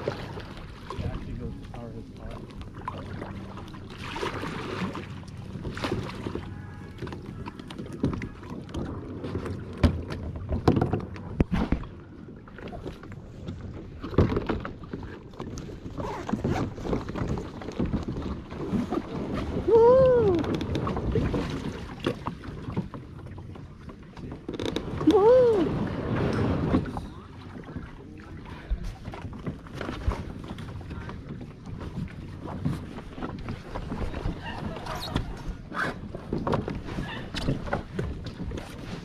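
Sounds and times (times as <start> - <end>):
kayaks knocking and scraping: 0.0 - 39.0
splashing and wading: 0.0 - 39.0.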